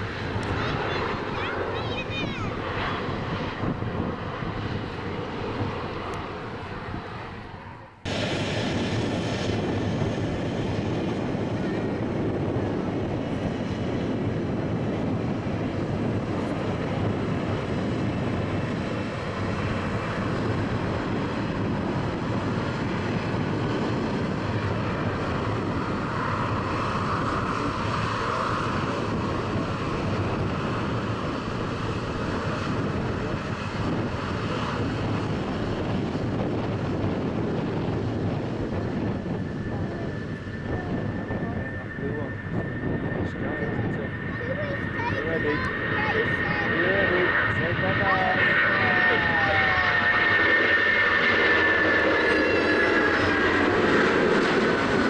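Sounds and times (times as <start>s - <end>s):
brief jet whine: 0.0s - 14.4s, 18.5s - 55.0s
airliner jet engine noise: 0.0s - 55.0s
jet engines at high power: 0.0s - 55.0s.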